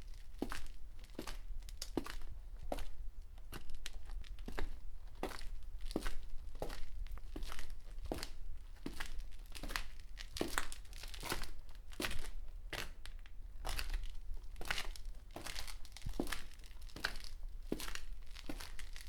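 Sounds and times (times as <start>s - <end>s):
footsteps on gritty concrete: 0.4s - 1.4s, 2.0s - 13.0s, 13.6s - 19.0s.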